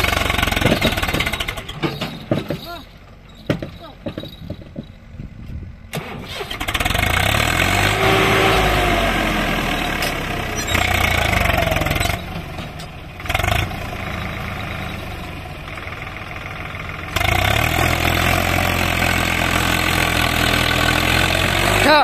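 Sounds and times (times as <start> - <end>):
tractor diesel engine revving: 0.0 - 22.0.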